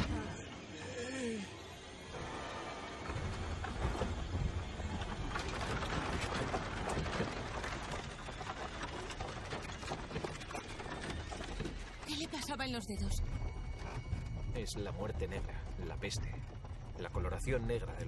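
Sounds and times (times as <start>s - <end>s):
carriage rattling over rough ground: 1.9s - 18.0s.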